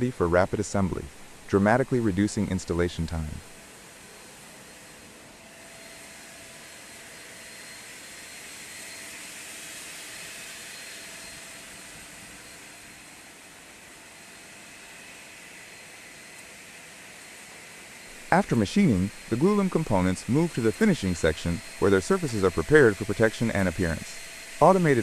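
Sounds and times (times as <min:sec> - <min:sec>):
faint machine whines: 0:00.0 - 0:25.0
industrial machine hiss: 0:04.2 - 0:25.0.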